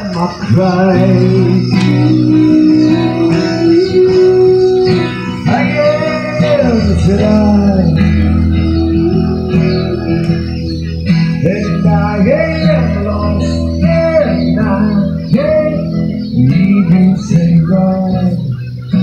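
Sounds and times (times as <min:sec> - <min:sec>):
live band music led by guitar: 0:00.0 - 0:19.0
deep bass line: 0:00.5 - 0:19.0.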